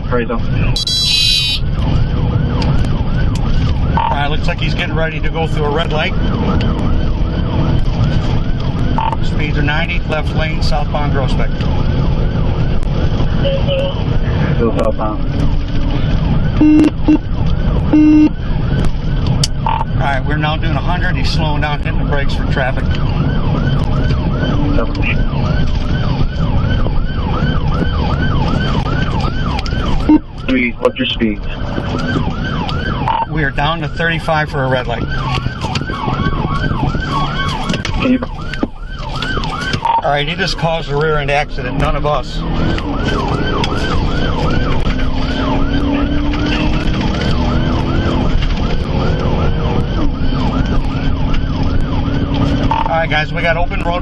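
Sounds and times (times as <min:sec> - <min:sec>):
car engine and road noise: 0:00.0 - 0:54.0
police siren yelp: 0:00.0 - 0:54.0.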